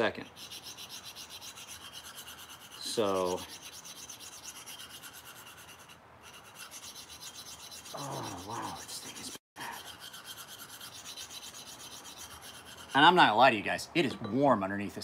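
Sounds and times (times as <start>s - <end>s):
knife scraping on sharpening stone: 0.2s - 13.2s.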